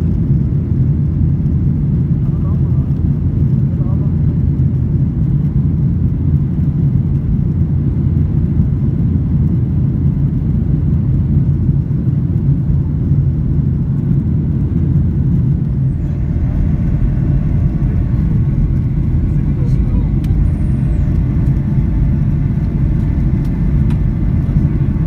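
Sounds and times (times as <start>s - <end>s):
airplane engines rumbling: 0.0s - 25.0s.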